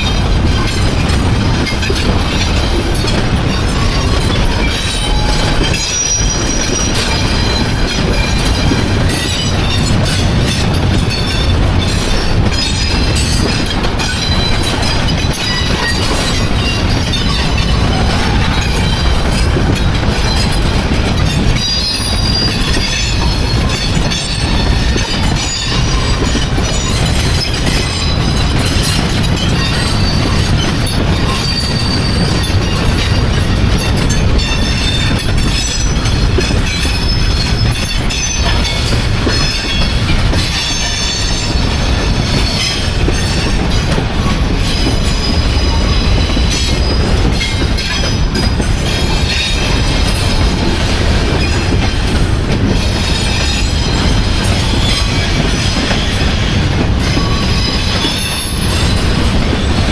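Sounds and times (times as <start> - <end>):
train cars rumbling: 0.0 - 59.9
train wheels squealing: 0.0 - 59.9.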